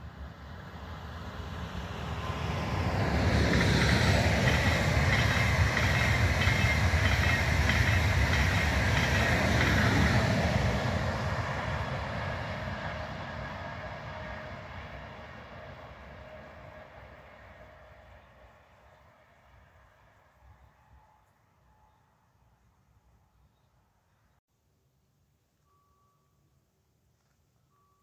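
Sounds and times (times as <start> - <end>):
high-speed train passing: 0.0 - 23.3.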